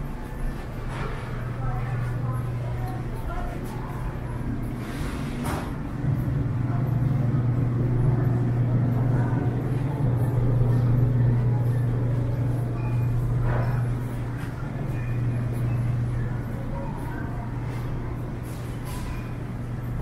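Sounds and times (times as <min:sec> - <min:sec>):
refrigerated coolers humming: 0:00.0 - 0:20.0.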